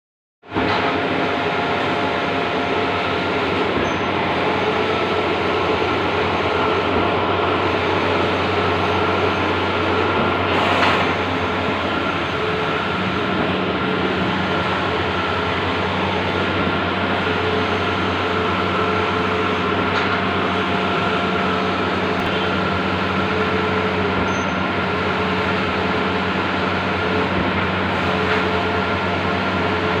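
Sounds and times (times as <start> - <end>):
printer machine hum: 0.5 - 30.0.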